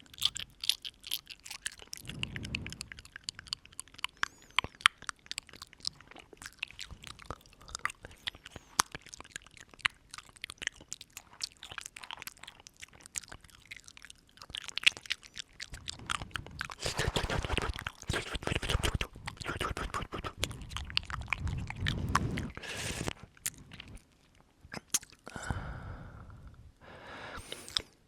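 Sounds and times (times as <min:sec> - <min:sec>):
wet mouth clicks and smacks: 0:00.0 - 0:25.4, 0:27.4 - 0:28.0.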